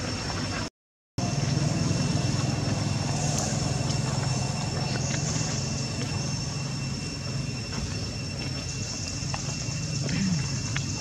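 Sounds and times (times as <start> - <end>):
low hum: 1.2 - 11.0.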